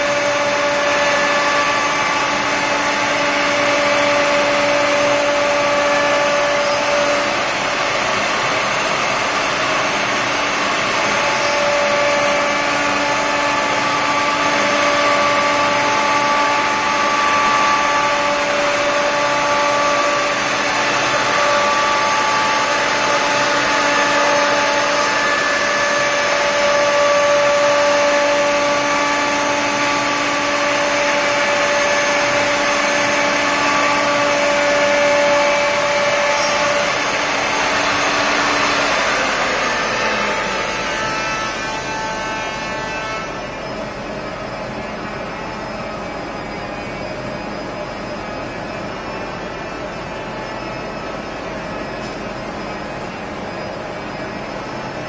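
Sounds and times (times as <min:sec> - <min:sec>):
router spindles whining: 0:00.0 - 0:55.0.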